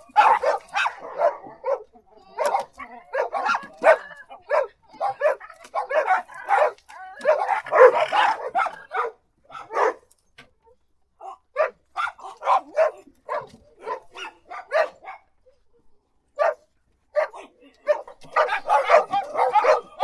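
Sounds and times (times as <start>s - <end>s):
several dogs barking: 0.0s - 10.2s, 11.5s - 15.5s, 16.4s - 20.0s.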